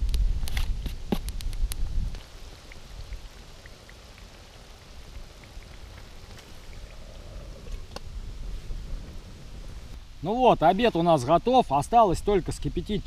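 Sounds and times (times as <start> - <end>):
food sizzling over fire: 0.0 - 12.2
fire crackles: 0.0 - 13.0.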